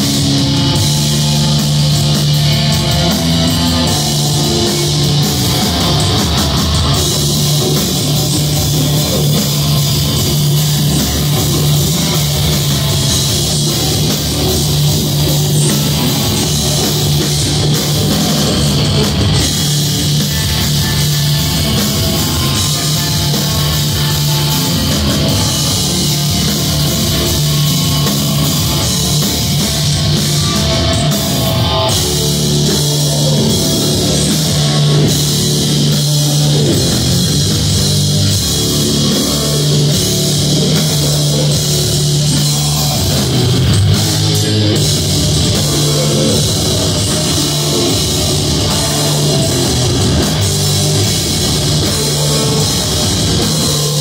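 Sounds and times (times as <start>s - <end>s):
distorted electric guitars: 0.0s - 54.0s
drum kit: 0.0s - 54.0s.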